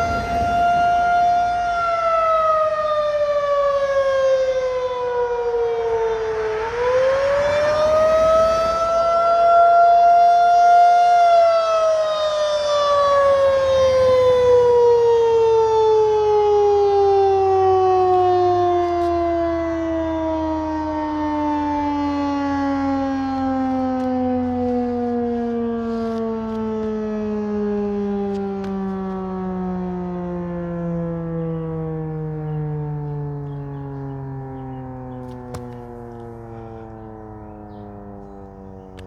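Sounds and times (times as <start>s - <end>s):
tornado siren wailing: 0.0s - 39.0s.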